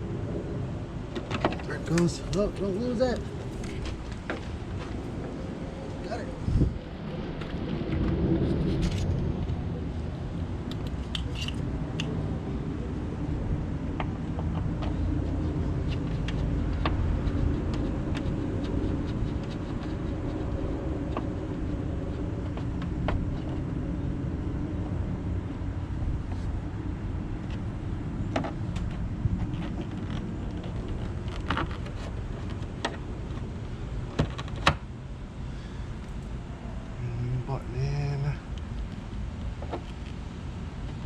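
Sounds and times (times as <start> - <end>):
steady low rumble: 0.0 - 34.2.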